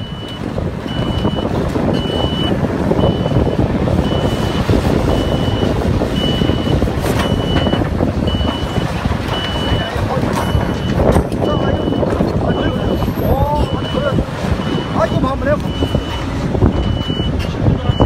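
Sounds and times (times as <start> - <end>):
excavator diesel engine running: 0.0 - 18.0
warning alarm beeping: 0.0 - 18.0.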